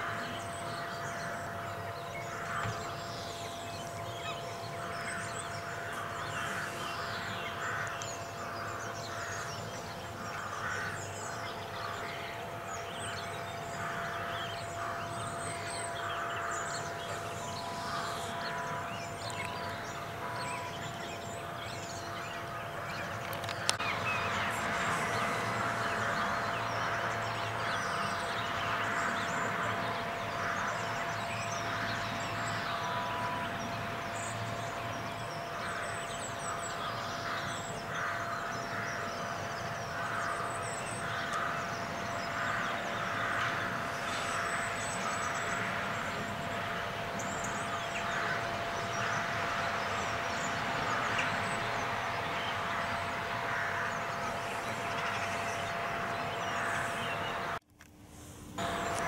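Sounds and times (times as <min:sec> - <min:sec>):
birds chirping: 0:00.0 - 0:57.6, 0:58.6 - 0:59.0
steady background hum: 0:00.0 - 0:59.0.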